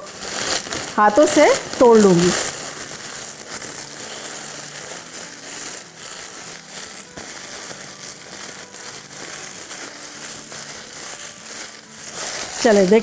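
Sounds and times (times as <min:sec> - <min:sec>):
cornflakes crackling: 0:00.0 - 0:13.0
plastic bag crinkling: 0:00.0 - 0:13.0.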